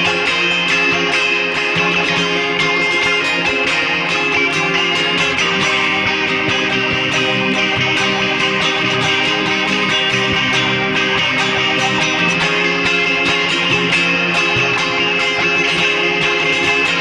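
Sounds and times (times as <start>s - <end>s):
instrumental guitar rock: 0.0s - 17.0s.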